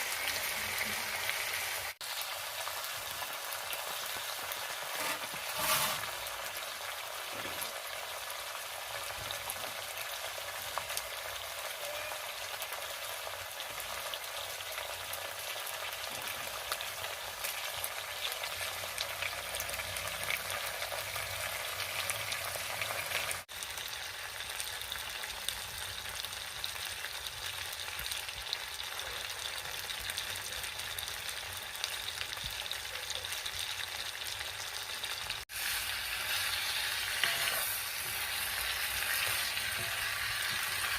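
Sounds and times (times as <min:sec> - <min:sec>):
food sizzling in a hot pan: 0:00.0 - 0:40.9.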